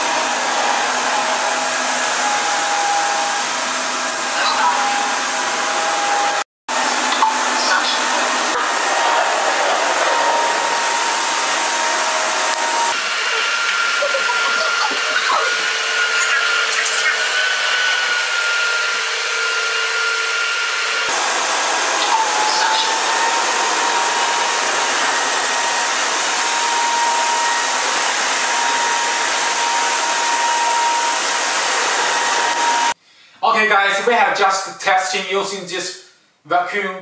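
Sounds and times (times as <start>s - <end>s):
vacuum motor whining: 0.0s - 33.0s.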